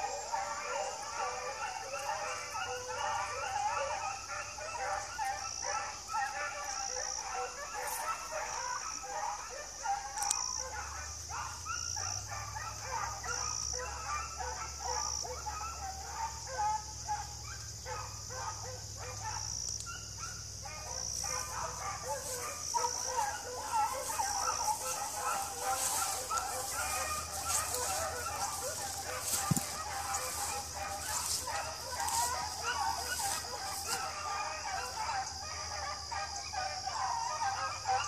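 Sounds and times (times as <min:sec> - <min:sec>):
beagles baying: 0:00.0 - 0:38.0.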